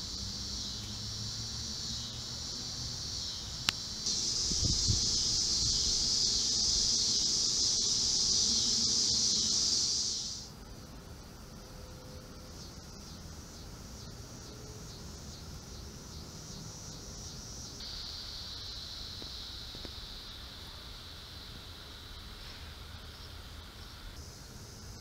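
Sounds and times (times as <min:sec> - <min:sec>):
insects buzzing drone: 0:00.0 - 0:25.0
insects chirping: 0:00.0 - 0:25.0.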